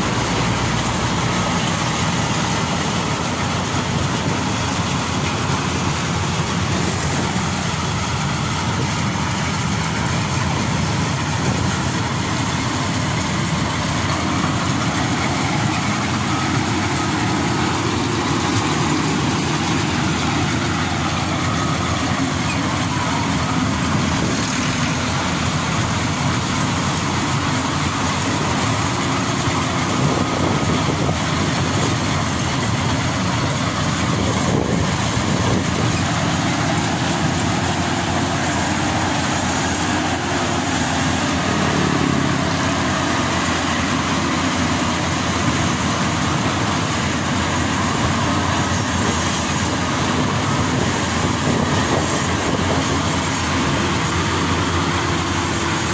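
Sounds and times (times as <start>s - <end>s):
combine harvester machinery drone: 0.0s - 55.9s.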